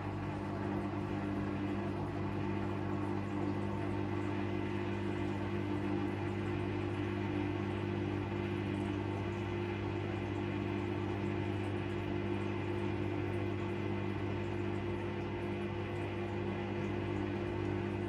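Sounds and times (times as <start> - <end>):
washing machine drone: 0.0 - 18.0.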